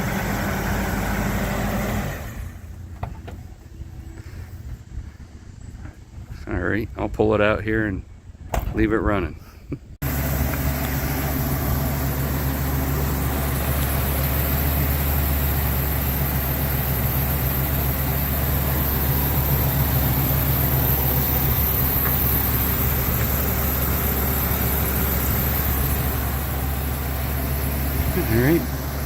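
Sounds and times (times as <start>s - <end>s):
truck engine idling: 0.0s - 6.5s, 10.0s - 29.0s.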